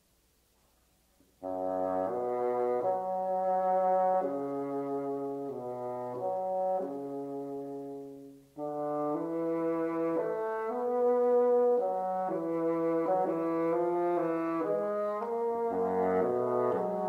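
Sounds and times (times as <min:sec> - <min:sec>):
classical bassoon music: 0:01.4 - 0:17.0.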